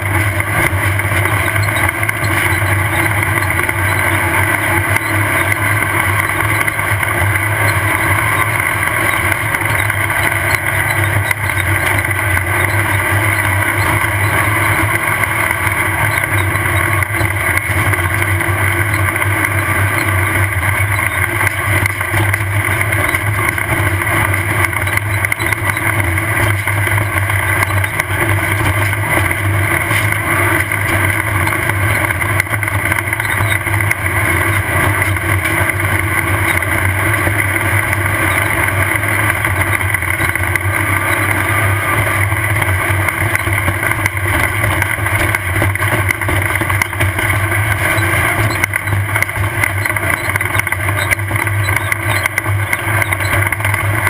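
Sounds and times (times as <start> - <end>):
car rattling over rough terrain: 0.0 - 54.0
race car engine running hard: 0.0 - 54.0.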